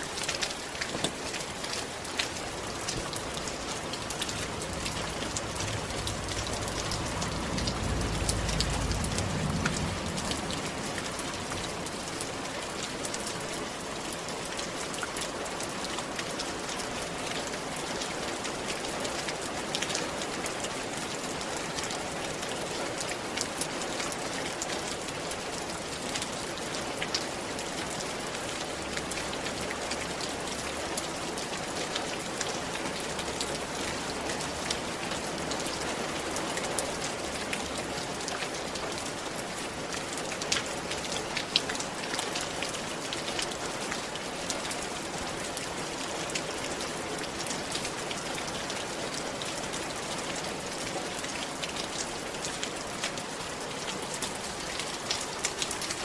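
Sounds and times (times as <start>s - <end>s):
rain hissing on a roof: 0.0s - 56.0s
raindrops ticking: 0.0s - 56.0s.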